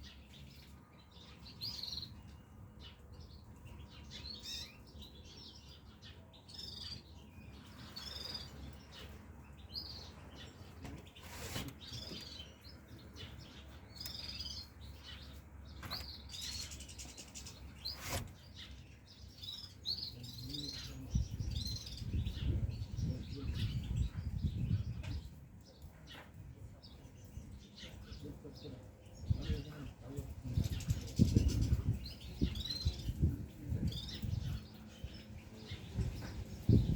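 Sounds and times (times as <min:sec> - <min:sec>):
finches chirping: 0:00.0 - 0:36.9.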